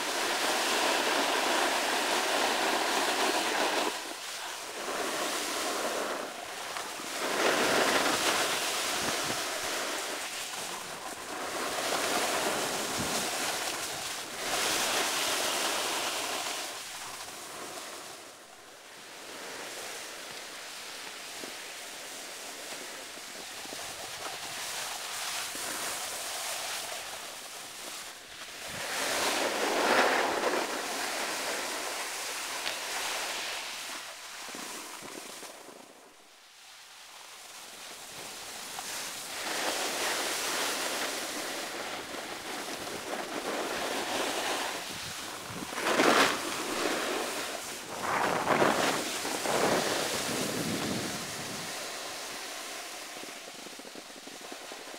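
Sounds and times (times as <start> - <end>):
snowboard scraping over snow: 0.0 - 54.9.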